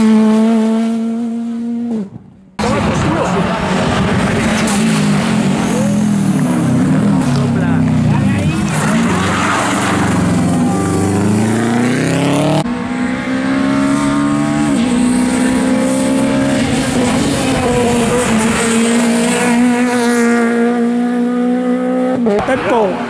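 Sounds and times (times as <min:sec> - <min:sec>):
rally car engine accelerating: 0:00.0 - 0:23.0
rally car engine upshifting: 0:00.0 - 0:23.0.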